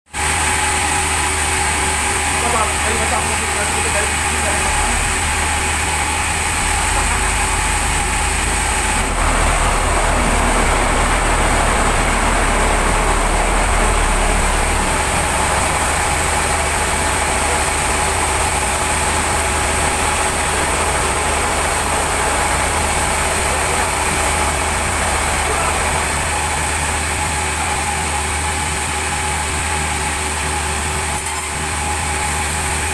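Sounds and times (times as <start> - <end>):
high steady whine: 0.1 - 32.9
sawmill machinery drone: 0.1 - 32.9.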